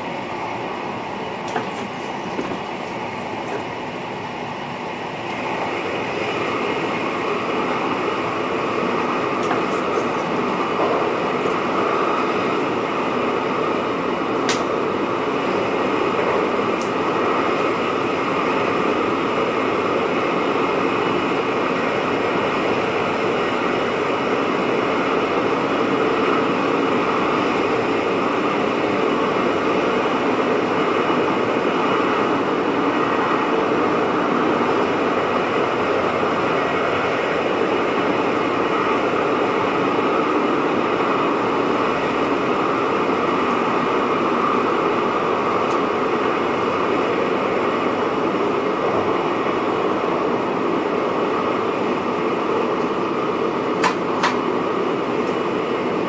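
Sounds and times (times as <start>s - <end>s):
train wheels on rail: 0.0s - 56.0s.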